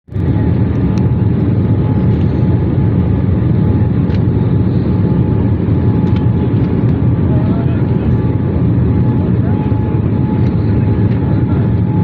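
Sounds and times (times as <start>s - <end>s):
airliner engine and airflow rumble: 0.1s - 12.0s
faint steady whine: 0.1s - 12.0s.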